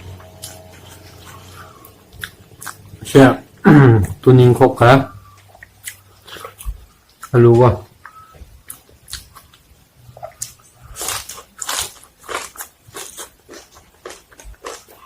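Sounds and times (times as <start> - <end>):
person chewing crunchy food: 0.0 - 3.0, 5.2 - 7.4, 8.0 - 15.0.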